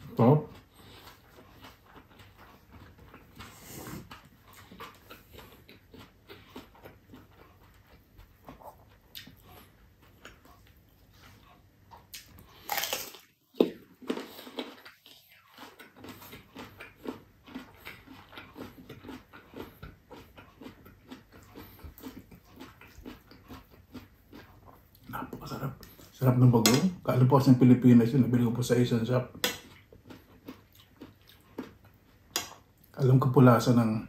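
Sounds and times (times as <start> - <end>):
wet chewing and lip smacking: 0.1 - 26.2, 29.3 - 33.0.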